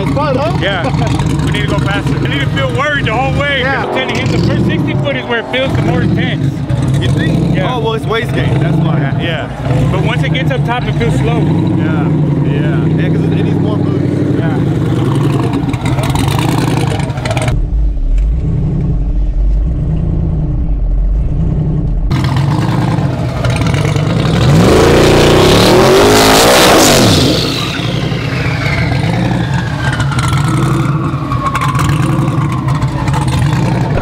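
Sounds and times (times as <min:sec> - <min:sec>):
drag truck engine revving: 0:00.0 - 0:34.0.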